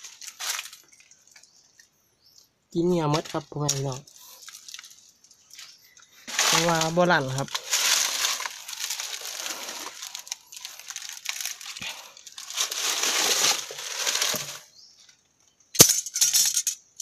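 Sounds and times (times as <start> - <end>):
rustling over dry leaves and rock: 0.0 - 1.6, 3.1 - 15.2.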